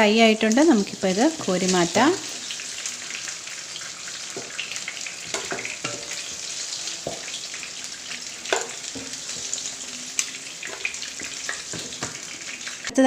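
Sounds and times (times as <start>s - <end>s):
chicken sizzling in oil: 0.0s - 13.0s
spoon clinking and scraping pan: 1.4s - 12.9s.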